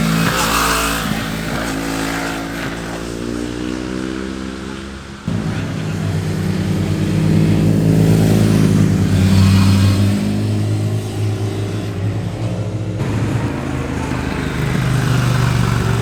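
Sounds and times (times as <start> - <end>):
motorcycle passing by: 0.0 - 16.0.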